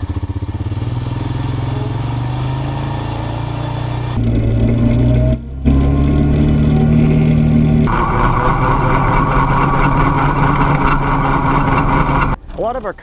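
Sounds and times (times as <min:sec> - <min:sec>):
atv engine running: 0:00.0 - 0:12.4
hissy engine exhaust: 0:01.8 - 0:12.4.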